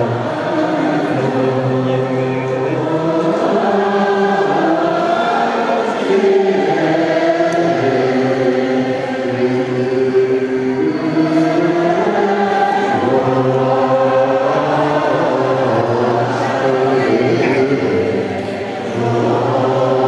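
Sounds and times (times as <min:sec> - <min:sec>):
group chanting in unison: 0:00.0 - 0:20.0.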